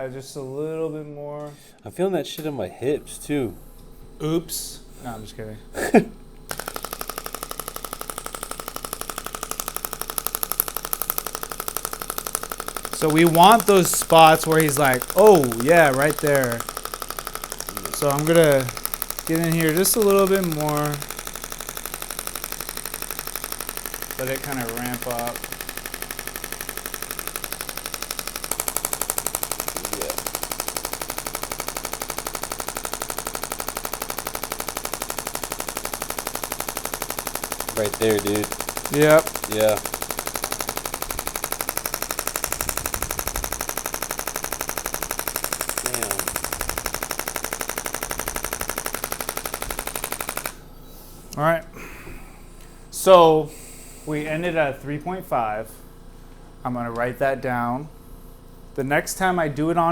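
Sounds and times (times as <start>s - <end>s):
rapid clicking pulses: 1.4s - 59.9s.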